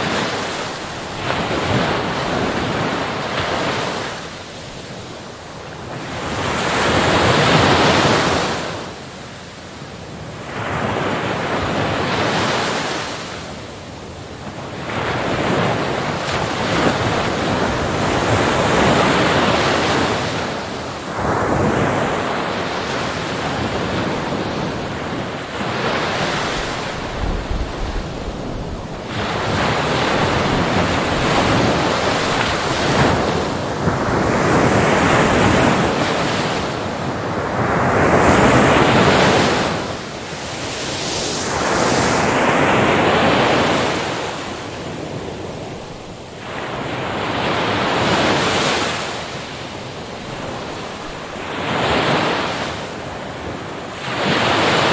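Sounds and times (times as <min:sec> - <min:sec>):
ocean waves breaking: 0:00.0 - 0:54.9
wind noise on microphone: 0:00.0 - 0:54.9.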